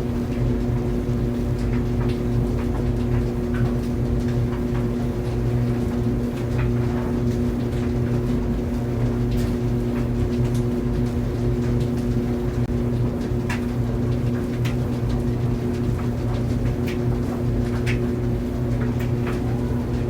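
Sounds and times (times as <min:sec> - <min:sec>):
tumble dryer humming: 0:00.0 - 0:20.0.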